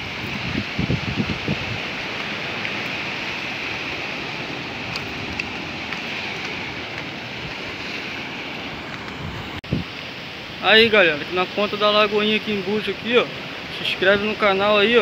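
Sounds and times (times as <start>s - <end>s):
ocean surf on rocky shore: 0.0s - 15.0s.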